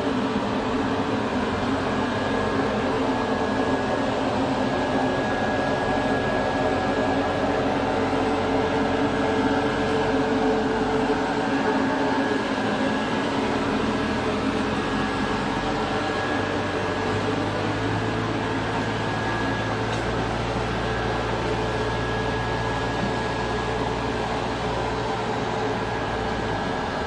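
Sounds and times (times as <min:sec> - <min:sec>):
fan and motor noise: 0:00.0 - 0:27.0
thin steady whine: 0:00.0 - 0:27.0.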